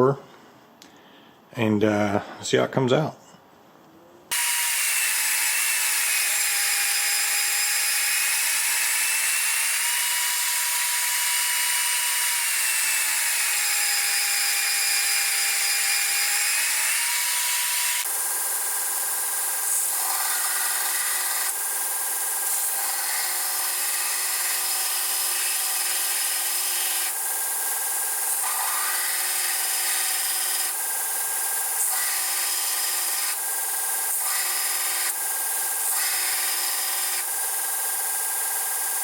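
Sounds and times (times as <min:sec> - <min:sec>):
power tool grinding steel: 0:04.3 - 0:39.0.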